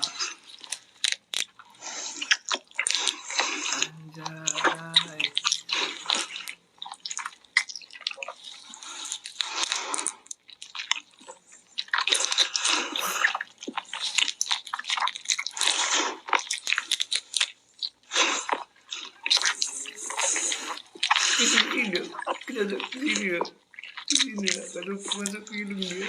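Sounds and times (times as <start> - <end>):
wet chewing and slurping: 0.0 - 26.0.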